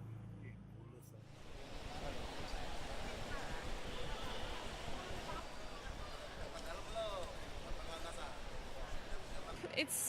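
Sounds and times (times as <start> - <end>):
steady background noise: 0.0 - 10.0
faint indistinct voices: 0.3 - 10.0.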